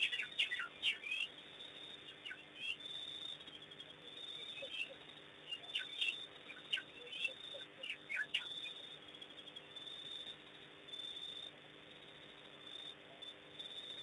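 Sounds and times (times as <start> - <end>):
faint low hum: 0.0 - 14.0
small birds chirping: 0.0 - 14.0.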